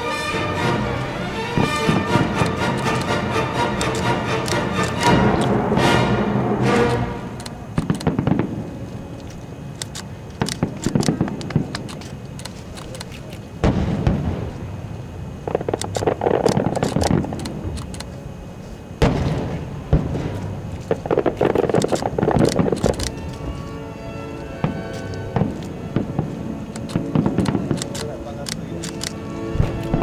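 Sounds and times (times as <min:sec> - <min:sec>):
fireworks booming: 0:00.0 - 0:12.2, 0:13.6 - 0:17.8, 0:19.0 - 0:30.0
fireworks crackling and popping: 0:00.0 - 0:30.0.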